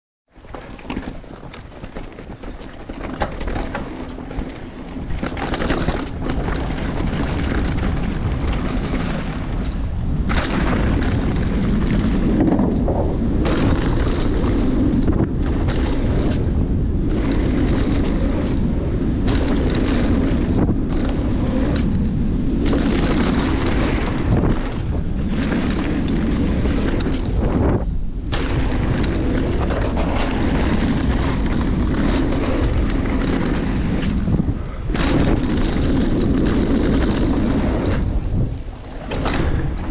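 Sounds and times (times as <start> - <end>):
bike rattling: 0.4 - 39.9
tyres rushing on loose dirt: 0.4 - 39.9
wind buffeting microphone: 0.4 - 39.9.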